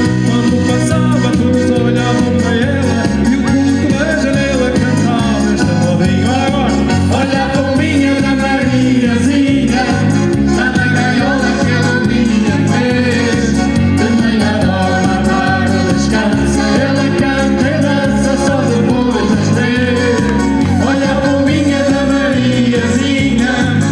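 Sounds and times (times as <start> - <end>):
lead singer singing: 0.0 - 23.9
pulsing bass line: 0.0 - 23.9.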